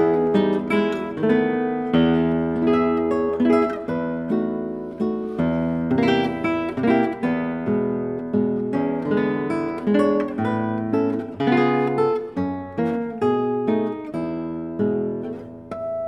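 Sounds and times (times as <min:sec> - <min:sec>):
fingerstyle classical guitar: 0:00.0 - 0:16.0.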